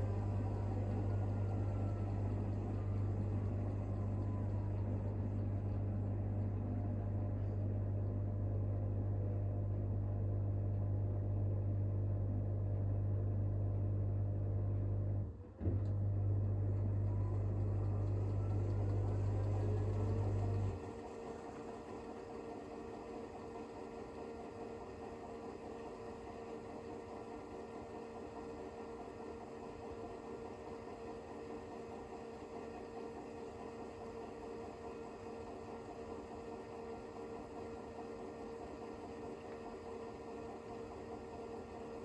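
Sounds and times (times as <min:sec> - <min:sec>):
faint motor whine: 0:00.0 - 0:42.0
washing machine hum: 0:00.0 - 0:42.0.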